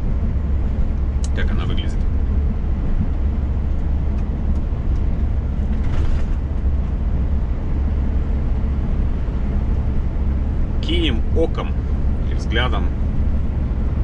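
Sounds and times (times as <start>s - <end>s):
road and tyre noise: 0.0s - 14.0s
truck engine hum: 0.0s - 14.0s.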